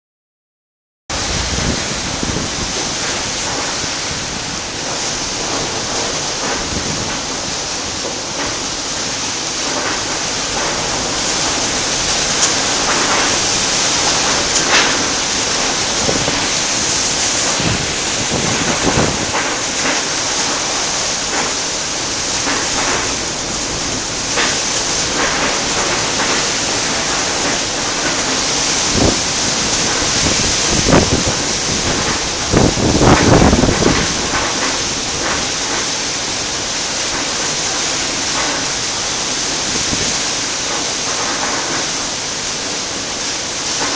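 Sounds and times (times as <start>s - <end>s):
wind and rain lashing window: 1.1s - 43.9s.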